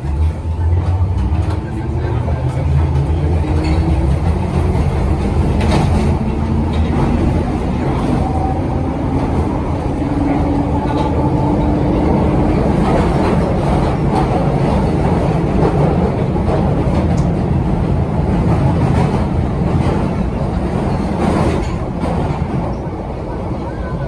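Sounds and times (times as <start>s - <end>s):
train rumbling on board: 0.0s - 24.0s.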